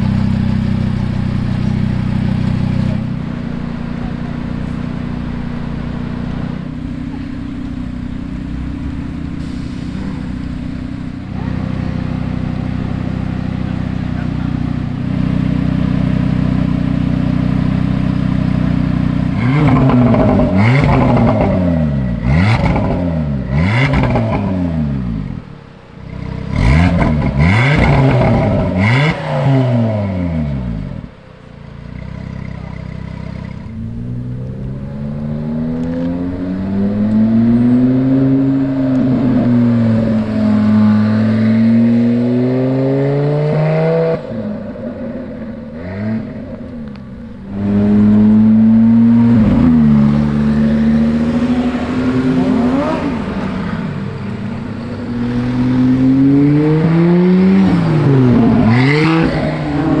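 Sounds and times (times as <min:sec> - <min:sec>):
car engine revving and accelerating: 0:00.0 - 0:31.2, 0:31.8 - 1:00.0.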